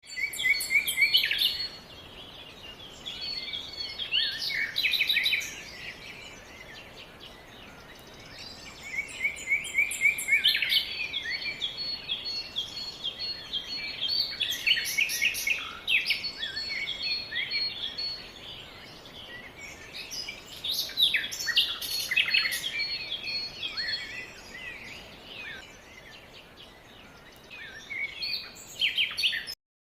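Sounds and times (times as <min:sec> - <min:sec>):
songbirds chirping and singing: 0:00.0 - 0:29.6
faint background hiss: 0:00.1 - 0:29.6.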